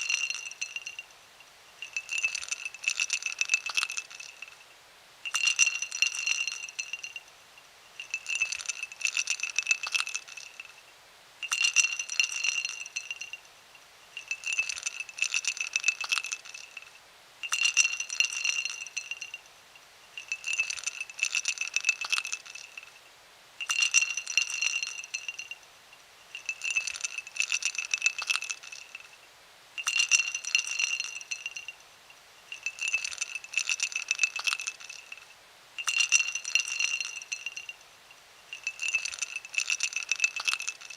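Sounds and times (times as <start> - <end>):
ice cubes clinking in glass: 0.0 - 1.1, 1.8 - 4.6, 5.3 - 7.3, 8.0 - 10.8, 11.4 - 13.4, 14.1 - 19.5, 20.2 - 23.0, 23.6 - 25.6, 26.3 - 29.2, 29.8 - 31.8, 32.5 - 37.8, 38.5 - 40.9.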